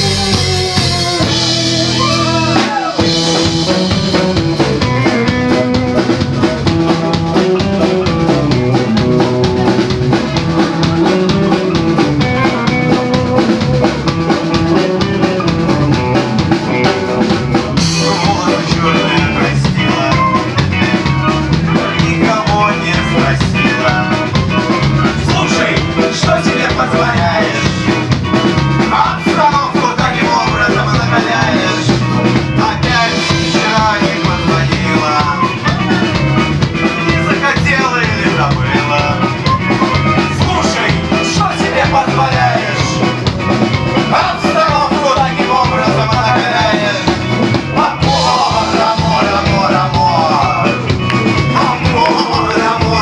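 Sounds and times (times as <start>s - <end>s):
drum kit: 0.0s - 53.0s
electric guitar: 0.0s - 53.0s
man singing lead: 0.0s - 53.0s.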